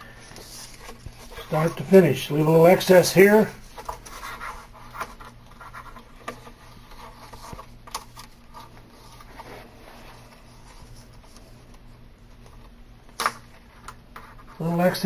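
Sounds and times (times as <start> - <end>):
low steady hum: 0.0 - 15.0
scratching and rustling of tape: 0.0 - 15.0.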